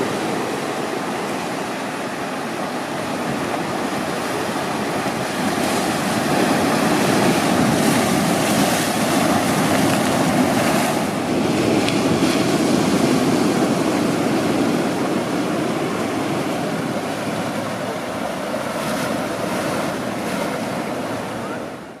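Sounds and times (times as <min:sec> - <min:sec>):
wind buffeting microphone: 0:00.0 - 0:21.4
ocean surf washing in: 0:00.0 - 0:22.0.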